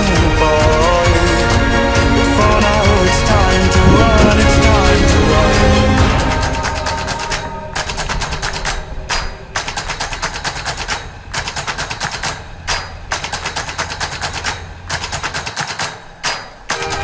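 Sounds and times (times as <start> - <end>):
rapid driving drum hits: 0.0 - 17.0.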